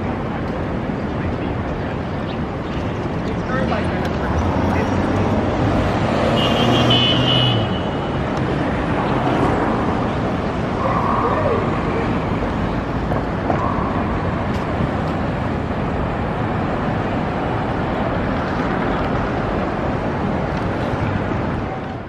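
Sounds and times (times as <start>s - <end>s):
city street traffic: 0.0s - 22.0s.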